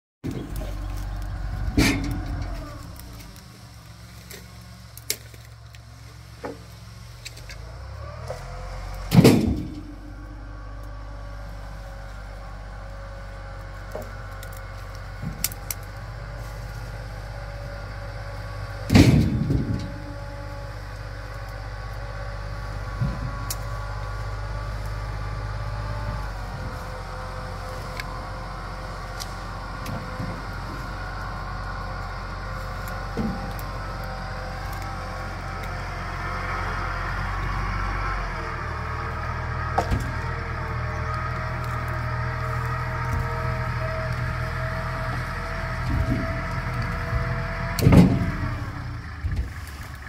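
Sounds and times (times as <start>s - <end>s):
tractor diesel engine revving: 0.2s - 50.0s.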